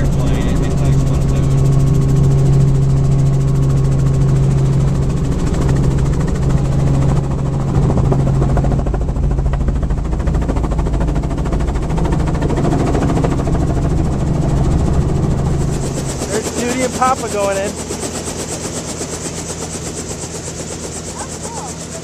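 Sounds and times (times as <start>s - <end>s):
helicopter engine and rotor hum: 0.0s - 22.0s.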